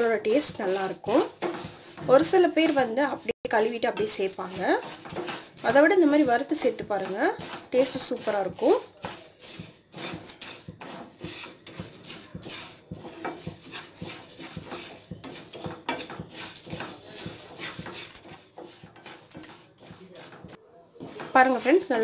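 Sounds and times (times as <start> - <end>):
grains rattling in pan: 0.0 - 22.0
spatula scraping frying pan: 0.0 - 22.0.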